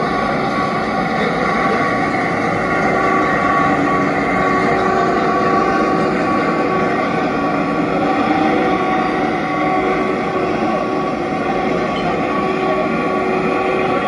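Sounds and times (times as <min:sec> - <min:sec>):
steady held tones: 0:00.0 - 0:14.0
train rumbling past on rails: 0:00.0 - 0:14.0.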